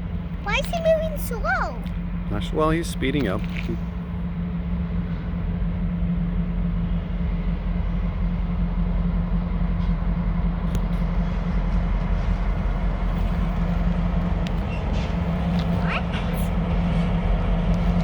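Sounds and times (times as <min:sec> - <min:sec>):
diesel locomotive drone: 0:00.0 - 0:18.0
rail noise: 0:00.0 - 0:18.0.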